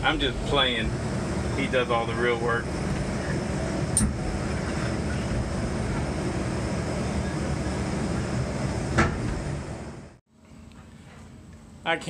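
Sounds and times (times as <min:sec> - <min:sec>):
excavator engine and hydraulics: 0:00.0 - 0:10.2.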